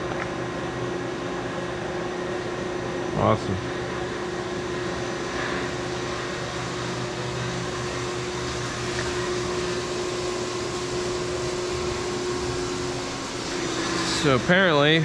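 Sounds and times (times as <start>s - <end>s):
cnc mill machine drone: 0.0s - 15.0s.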